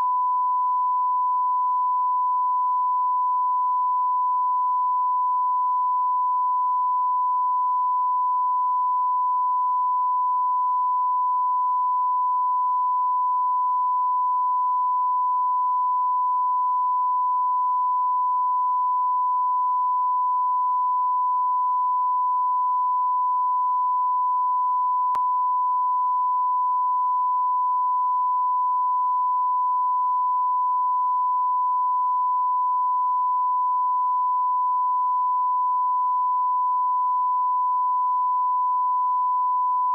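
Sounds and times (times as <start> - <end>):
high electronic sine tone: 0.0 - 39.9.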